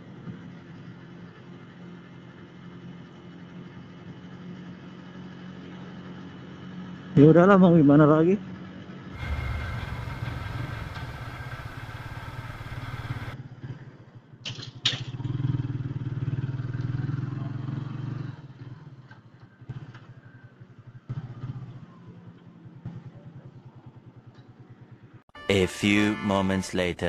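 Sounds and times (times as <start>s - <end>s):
motorcycle engine running at low speed: 0.0s - 14.4s, 15.0s - 25.2s.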